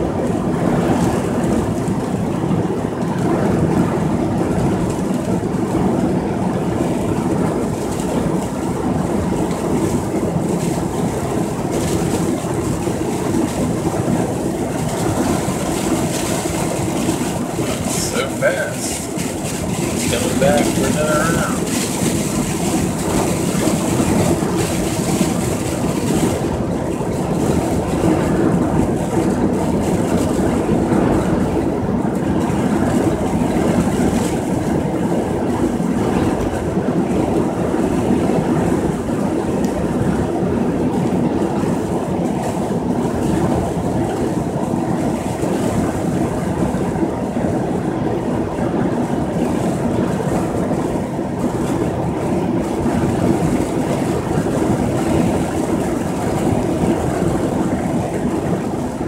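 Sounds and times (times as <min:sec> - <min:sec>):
engine and tyre drone: 0:00.0 - 0:59.0.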